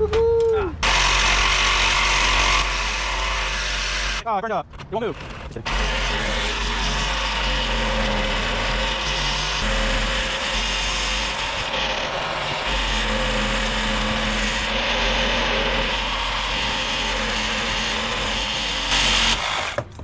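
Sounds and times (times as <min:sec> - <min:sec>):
drill grinding into steel: 0:00.8 - 0:04.2, 0:05.0 - 0:20.0.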